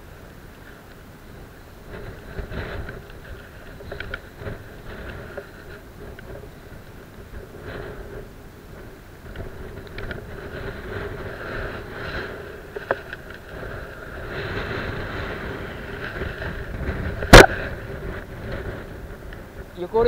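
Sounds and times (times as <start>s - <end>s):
sea noise: 0.0s - 19.8s
wind buffeting microphone: 0.0s - 20.0s.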